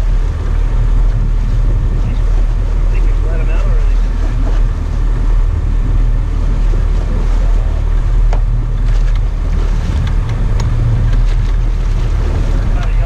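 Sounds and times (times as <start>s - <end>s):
boat engine droning: 0.0s - 13.0s
water noise: 0.0s - 13.0s
wind: 0.0s - 13.0s.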